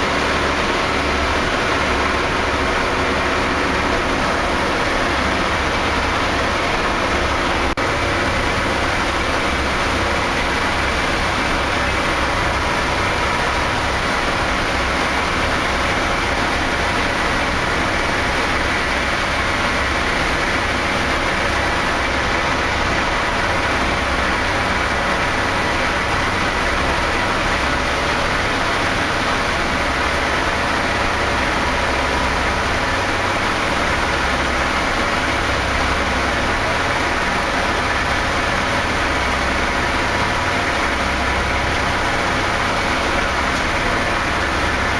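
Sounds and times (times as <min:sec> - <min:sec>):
aircraft engines loud drone: 0:00.0 - 0:44.9.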